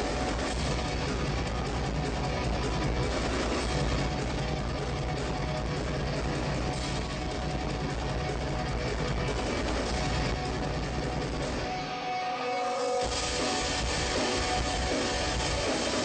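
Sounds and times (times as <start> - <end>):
metal band playing live: 0.0 - 16.0.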